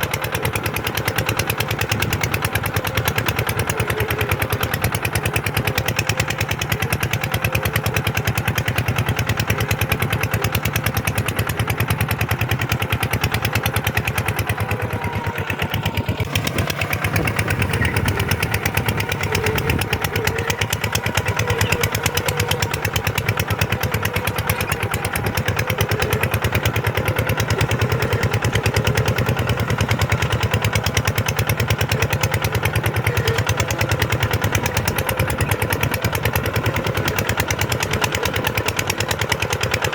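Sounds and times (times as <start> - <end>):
tractor diesel engine pulsing: 0.0 - 39.9.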